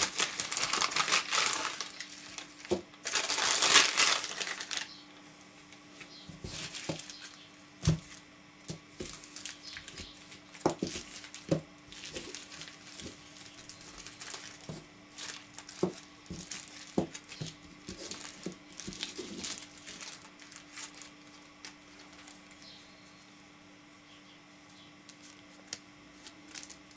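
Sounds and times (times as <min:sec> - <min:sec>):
plastic bags crinkling: 0:00.0 - 0:05.0, 0:06.4 - 0:08.2, 0:09.0 - 0:22.7, 0:25.1 - 0:26.9.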